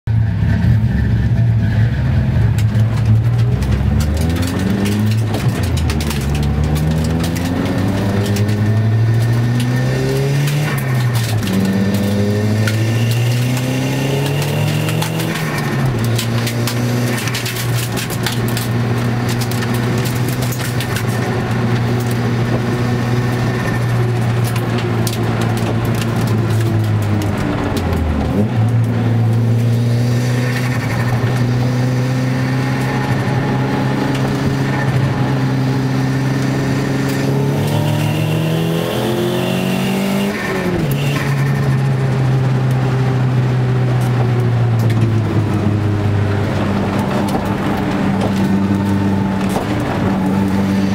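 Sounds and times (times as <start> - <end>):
car engine under load: 0.1 - 50.9.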